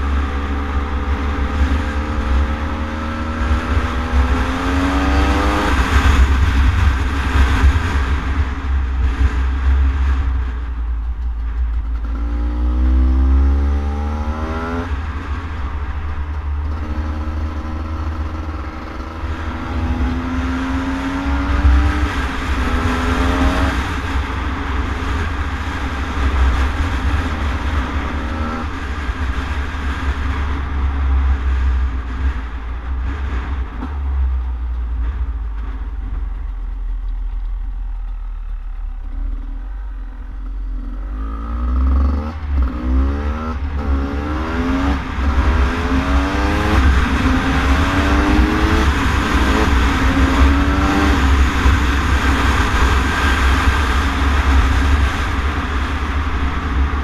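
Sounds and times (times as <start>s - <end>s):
steady low rumble: 0.0s - 57.0s.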